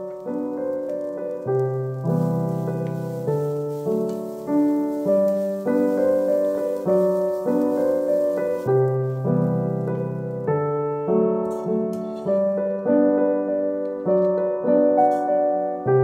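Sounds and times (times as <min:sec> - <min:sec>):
calm piano music: 0:00.0 - 0:16.0.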